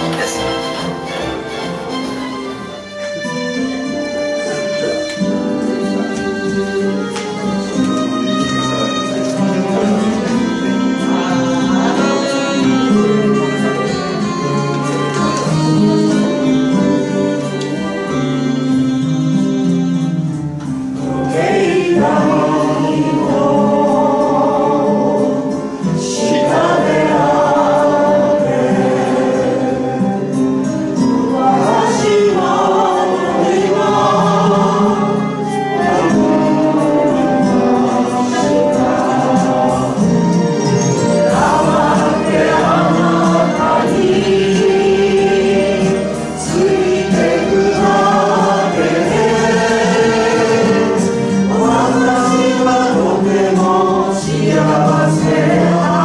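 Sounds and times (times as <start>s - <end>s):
group of voices singing: 0.0s - 3.0s, 8.7s - 19.4s, 20.8s - 56.0s
instrumental music: 0.0s - 56.0s.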